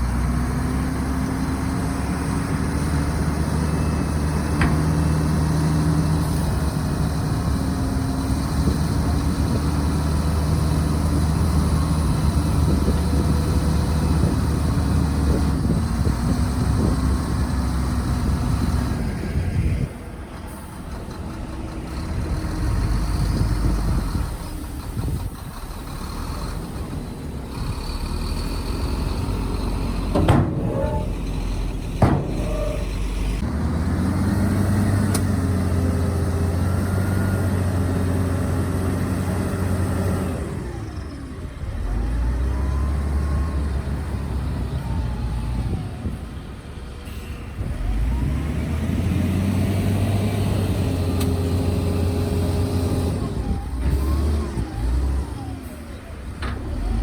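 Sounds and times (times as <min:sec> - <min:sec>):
heavy diesel engines under load: 0:00.0 - 0:57.0.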